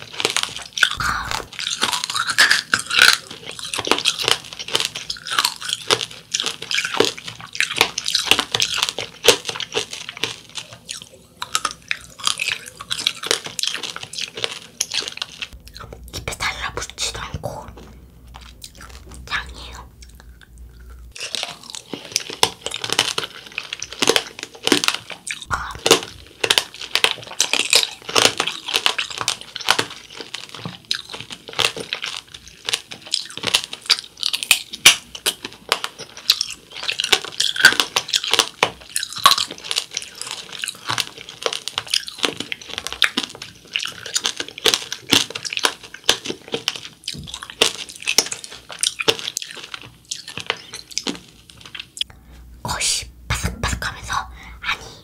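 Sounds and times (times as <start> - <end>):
chewing: 0.0 - 52.2
candy shell crunching: 0.0 - 52.9.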